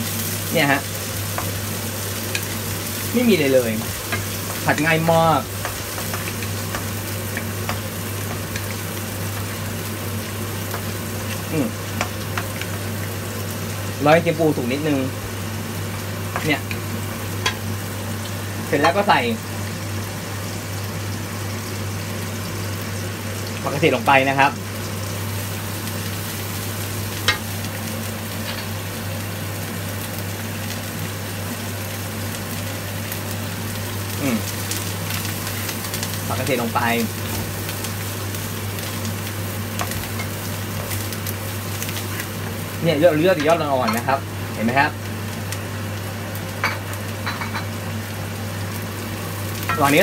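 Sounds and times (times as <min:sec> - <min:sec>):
food sizzling in hot oil: 0:00.0 - 0:50.0.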